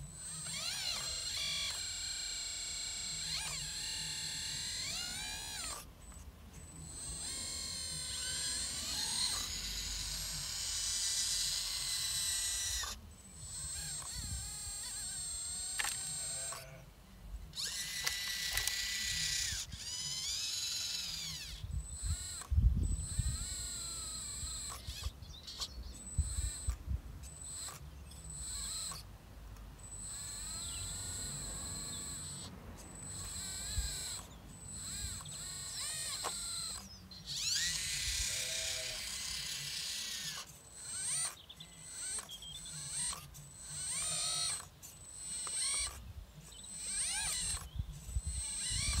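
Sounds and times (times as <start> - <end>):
hydraulic pump and valves whining: 0.0 - 16.8, 17.4 - 49.0.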